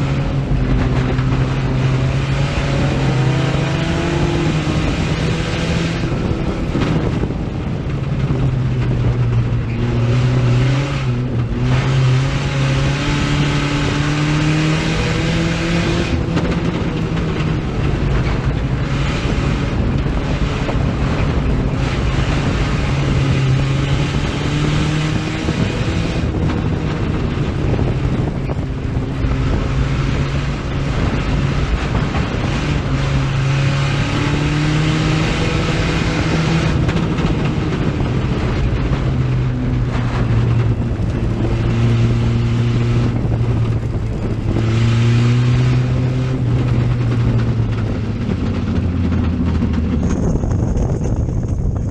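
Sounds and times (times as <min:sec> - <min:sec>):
race car engine running hard: 0:00.0 - 0:51.9.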